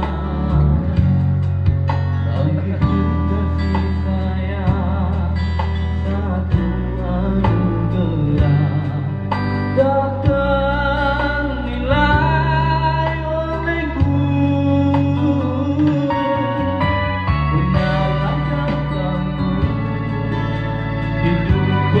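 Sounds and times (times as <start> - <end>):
man singing into microphone: 0.0 - 20.4, 21.1 - 22.0
amplified music with guitar: 0.0 - 22.0
bass line: 0.0 - 22.0.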